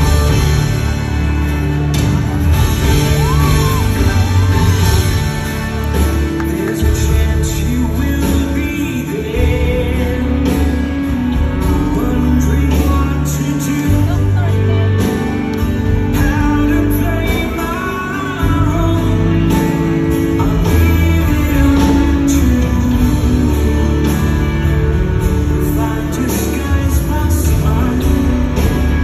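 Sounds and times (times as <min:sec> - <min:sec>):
live soft rock band: 0:00.0 - 0:29.0
person singing: 0:02.8 - 0:29.0.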